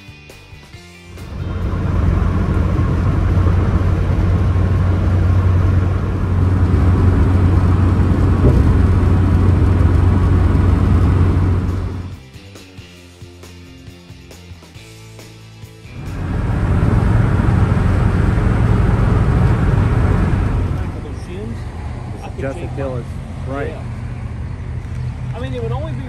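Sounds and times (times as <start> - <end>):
truck engine drone inside cab: 1.0 - 12.2, 15.9 - 26.0
road and wind noise: 1.0 - 12.4, 15.8 - 26.0.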